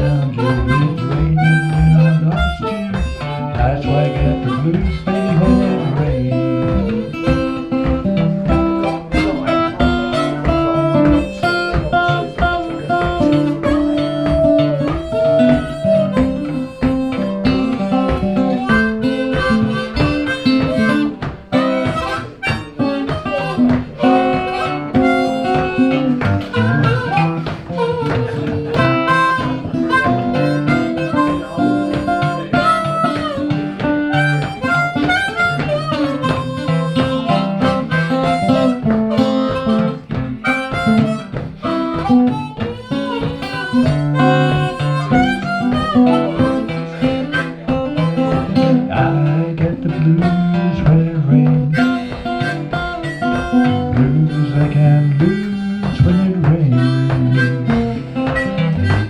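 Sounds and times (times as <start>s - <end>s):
guitar accompaniment: 0.0s - 59.0s
harmonica blues solo: 0.0s - 59.0s.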